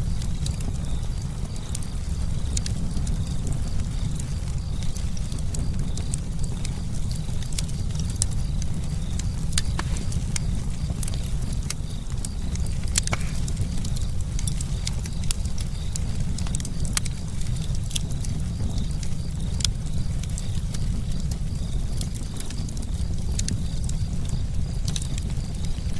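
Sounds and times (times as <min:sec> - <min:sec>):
campfire crackling and popping: 0:00.0 - 0:25.9
fire low rumble: 0:00.0 - 0:25.9.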